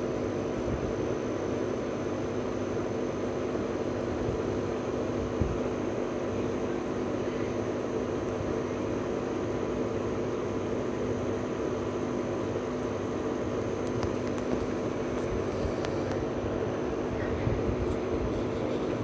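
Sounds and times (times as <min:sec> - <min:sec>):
aquarium pump humming: 0:00.0 - 0:19.0.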